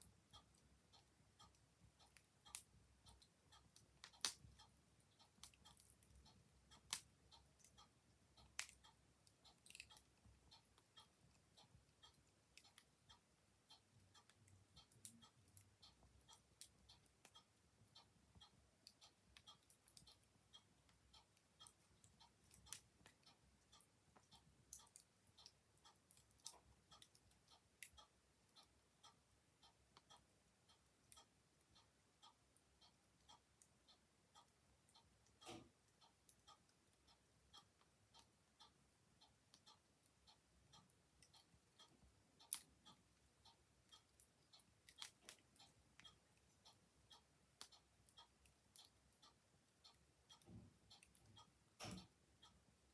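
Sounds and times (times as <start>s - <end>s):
clock ticking: 0.0s - 52.9s.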